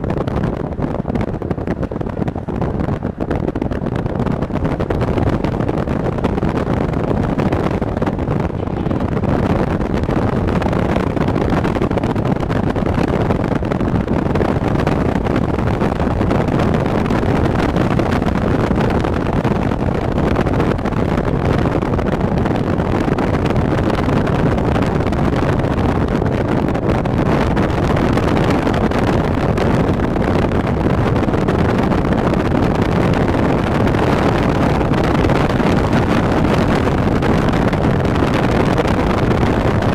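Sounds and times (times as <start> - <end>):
car road and engine noise: 0.0 - 39.9
wind on microphone: 0.0 - 39.9.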